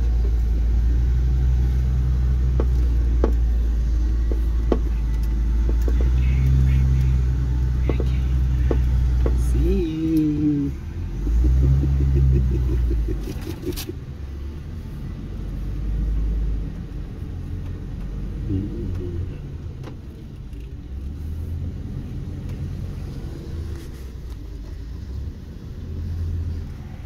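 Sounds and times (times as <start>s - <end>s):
van engine and tyres rumbling: 0.0s - 27.0s.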